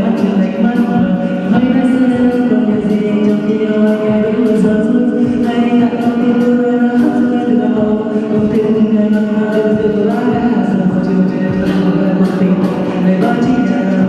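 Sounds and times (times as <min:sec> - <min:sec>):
person singing: 0:00.0 - 0:14.0
pop ballad music: 0:00.0 - 0:14.0.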